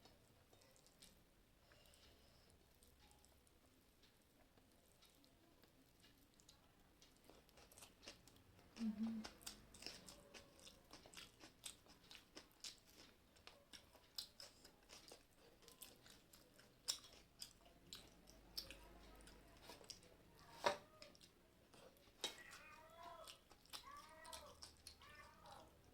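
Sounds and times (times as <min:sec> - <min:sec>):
person chewing and eating: 0:00.0 - 0:25.9.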